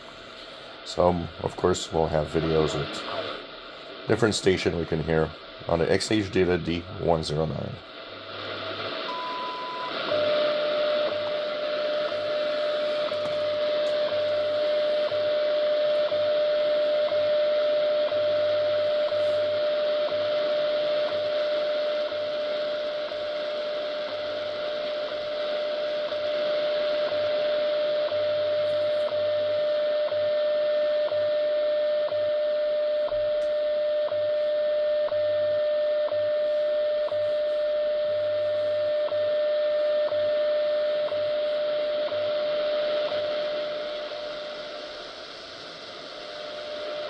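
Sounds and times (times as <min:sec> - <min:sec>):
shortwave radio hiss: 0:00.0 - 0:30.0, 0:36.3 - 0:47.0
steady time signal tone: 0:00.2 - 0:47.0.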